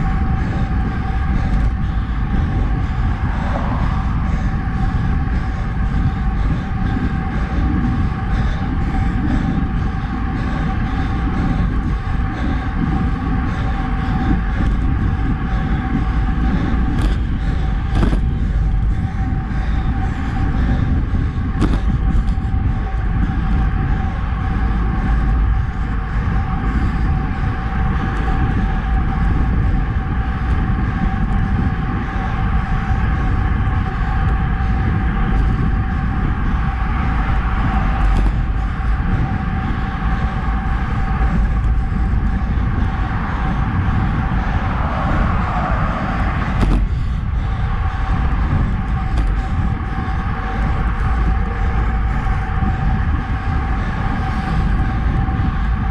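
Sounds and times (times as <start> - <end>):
bike tyre road noise: 0.0 - 55.9
steady high hum: 0.0 - 55.9
wind rushing over camera: 0.0 - 55.9.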